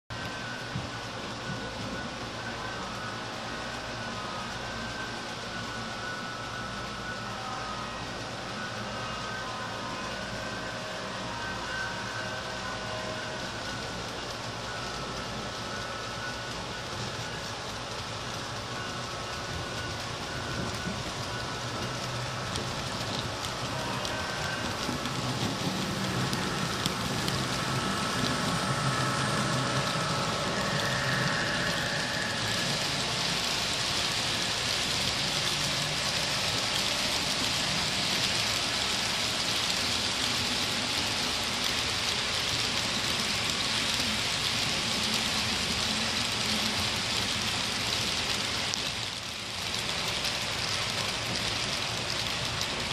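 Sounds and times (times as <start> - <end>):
low locomotive hum: 0.1 - 52.9.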